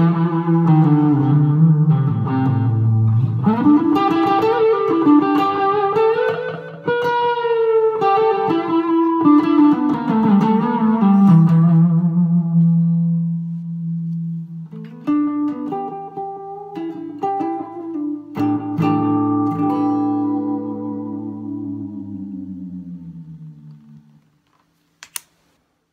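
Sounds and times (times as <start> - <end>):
electric guitar through amplifier: 0.0 - 24.5.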